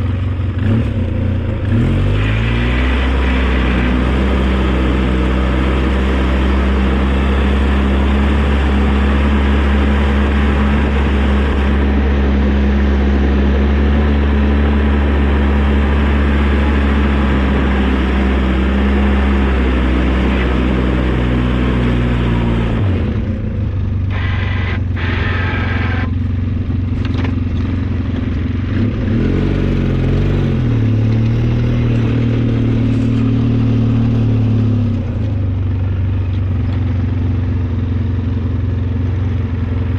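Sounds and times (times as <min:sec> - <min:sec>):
snowplow engine running: 0:00.0 - 0:39.9.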